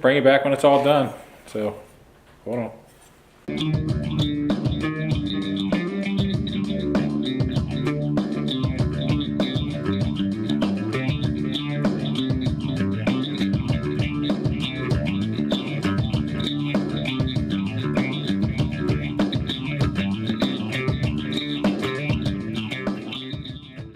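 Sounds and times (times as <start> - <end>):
guitar-driven instrumental music: 3.5 - 23.9.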